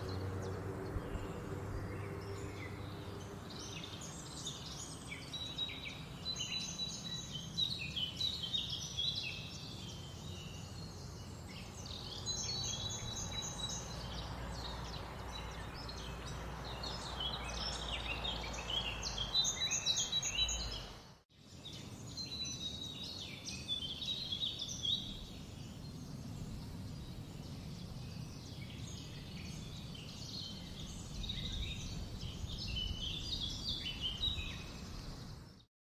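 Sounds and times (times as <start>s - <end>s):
small birds chirping: 0.0s - 35.7s.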